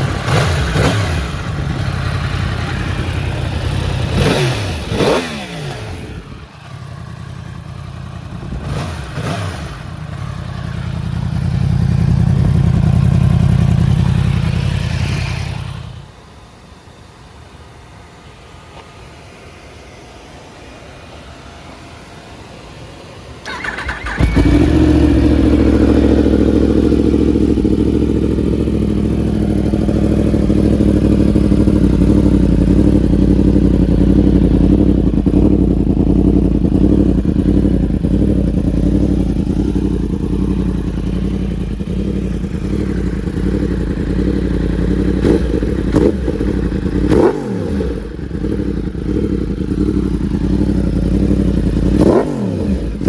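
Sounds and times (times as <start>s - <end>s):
motorcycle engine starting and idling: 0.0s - 16.2s, 23.4s - 53.0s.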